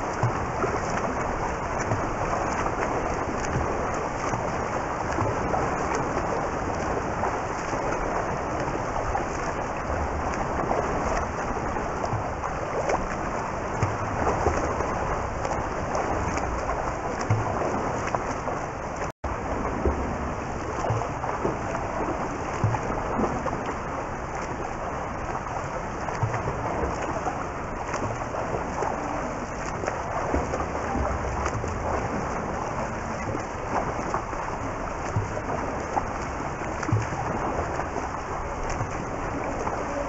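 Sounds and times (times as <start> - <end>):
pool water lapping: 0.0 - 40.0
swimmer stroke splashes: 0.0 - 40.0.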